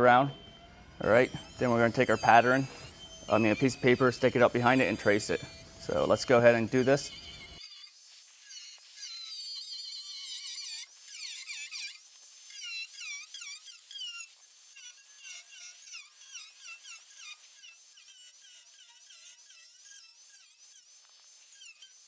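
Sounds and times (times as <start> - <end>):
angle grinder cutting sheet metal: 0.8 - 22.0.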